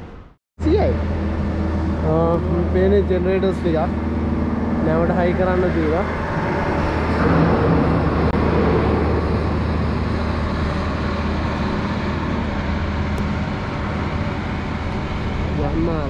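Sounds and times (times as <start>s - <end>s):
shipyard machinery drone: 0.0s - 16.0s.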